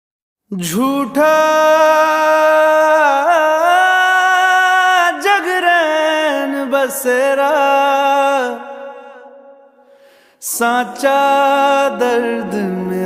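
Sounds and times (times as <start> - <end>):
man singing slow song: 0.5 - 13.0.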